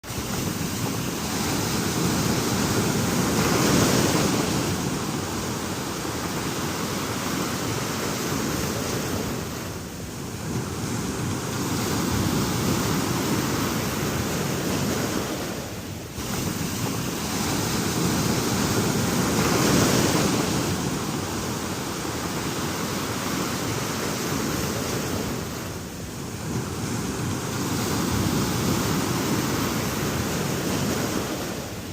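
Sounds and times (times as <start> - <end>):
ocean waves breaking: 0.0 - 31.9.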